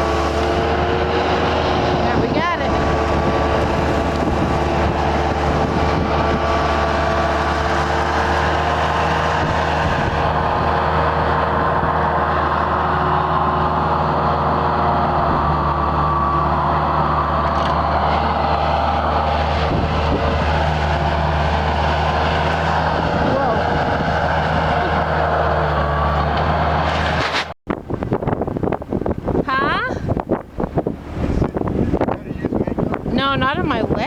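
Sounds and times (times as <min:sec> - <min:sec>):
skid steer engine running: 0:00.0 - 0:29.4.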